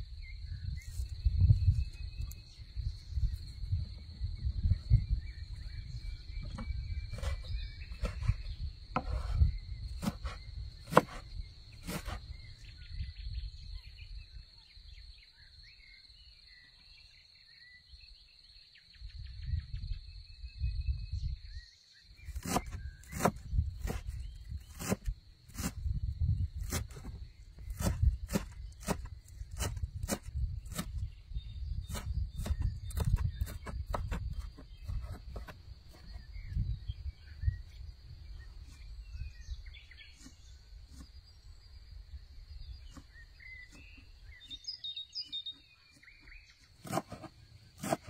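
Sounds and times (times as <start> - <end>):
faint bird chirp: 0.0 - 48.0.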